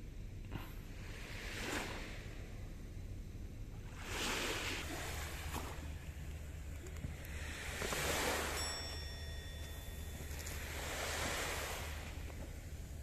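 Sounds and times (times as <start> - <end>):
small waves washing on shore: 0.8 - 2.6, 3.8 - 13.0.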